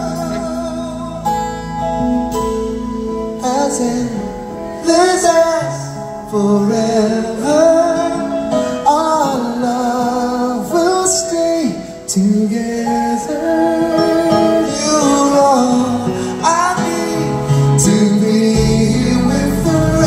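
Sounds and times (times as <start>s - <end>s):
live band playing a slow ballad: 0.0s - 20.0s.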